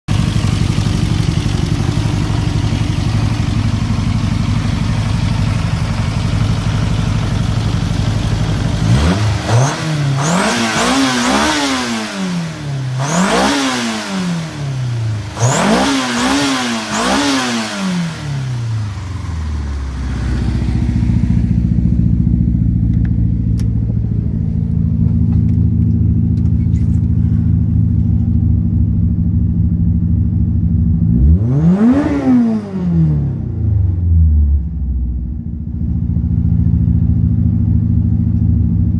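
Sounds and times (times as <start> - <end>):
car engine idling and revving: 0.1 - 38.9.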